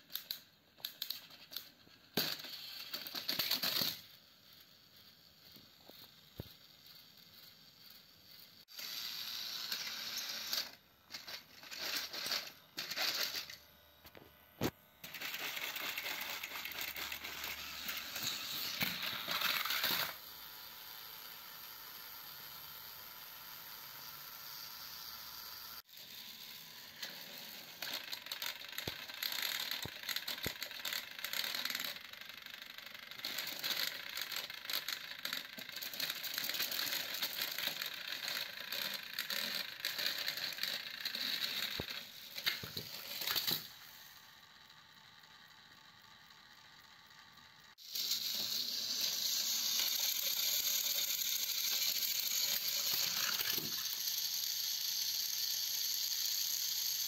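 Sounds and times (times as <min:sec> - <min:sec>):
toy train motors whirring: 0:00.0 - 0:57.0.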